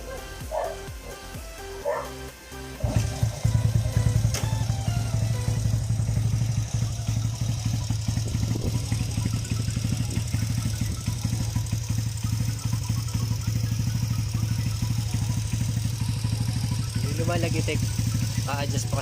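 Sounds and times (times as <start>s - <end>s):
engine idling with ticking: 0.0s - 19.0s.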